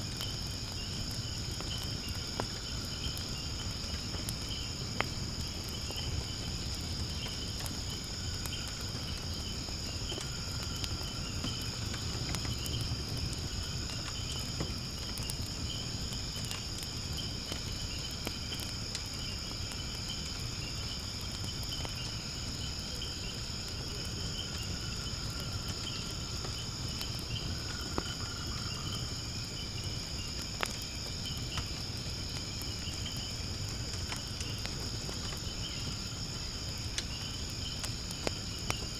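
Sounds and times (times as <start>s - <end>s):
firewood crackling and popping: 0.0s - 38.9s
insects chorus: 0.0s - 38.9s
low rumble of flames: 0.0s - 38.9s.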